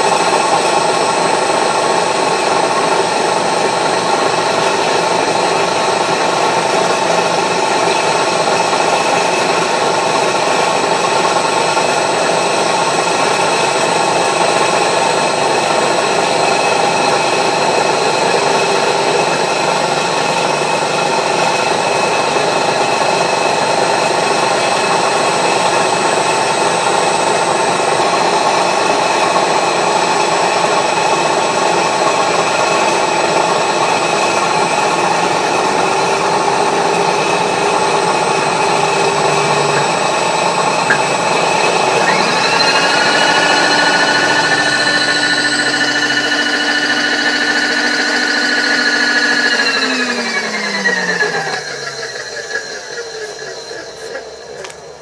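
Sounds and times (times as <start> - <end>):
high whine: 0.0 - 55.0
milling machine cutting steel: 0.0 - 55.0.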